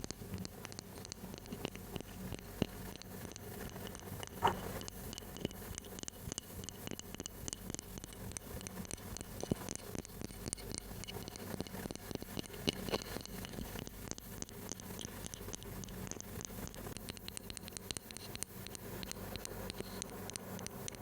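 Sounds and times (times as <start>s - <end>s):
light tapping and clicks: 0.0s - 21.0s.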